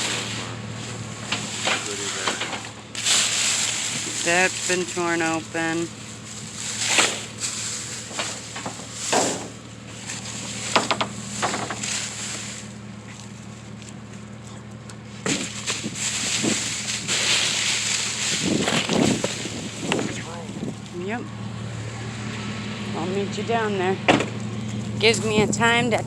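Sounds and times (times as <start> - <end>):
trash bags rustling: 0.0 - 21.2
low hum: 0.0 - 26.0.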